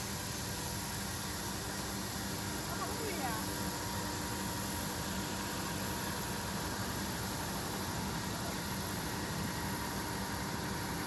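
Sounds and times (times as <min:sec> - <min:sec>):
low diesel engine drone: 0:00.0 - 0:11.0
steady hiss: 0:00.0 - 0:11.0.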